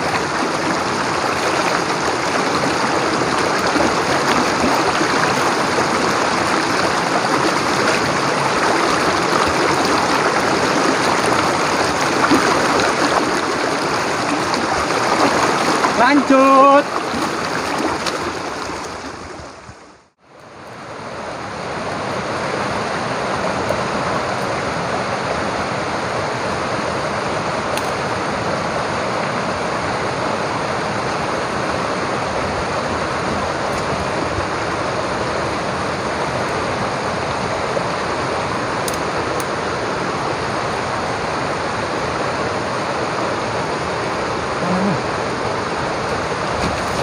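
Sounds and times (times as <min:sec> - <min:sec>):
stream flowing: 0:00.0 - 0:47.0.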